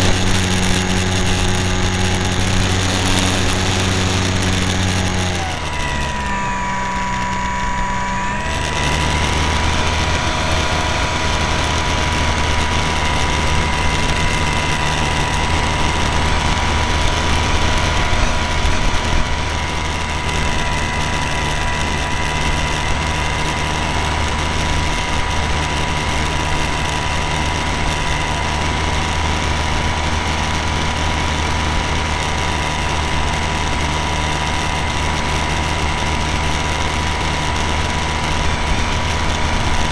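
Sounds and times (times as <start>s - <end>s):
small plane engine: 0.0s - 39.9s.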